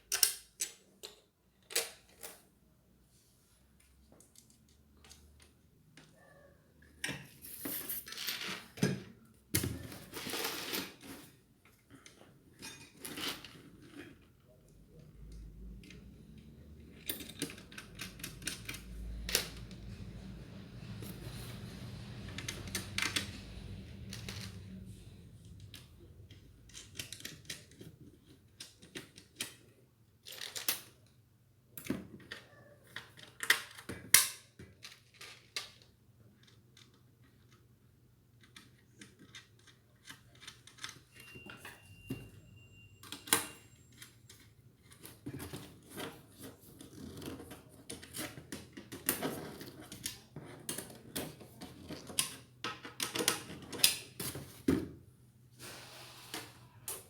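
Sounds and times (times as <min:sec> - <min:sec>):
clicks and knocks of parts handled: 0:00.0 - 0:02.5, 0:03.8 - 0:06.2, 0:06.8 - 0:20.0, 0:25.3 - 0:31.0, 0:31.8 - 0:42.3, 0:43.1 - 0:54.8.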